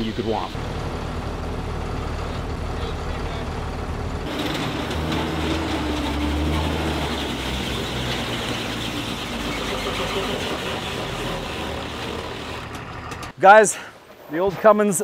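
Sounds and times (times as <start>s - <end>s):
tracked vehicle diesel engine: 0.0s - 13.4s.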